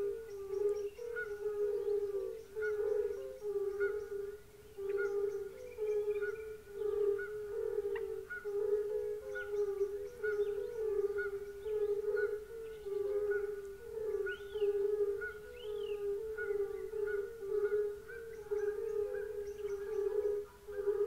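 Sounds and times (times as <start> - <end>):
chorus of toads calling: 0.0 - 21.0.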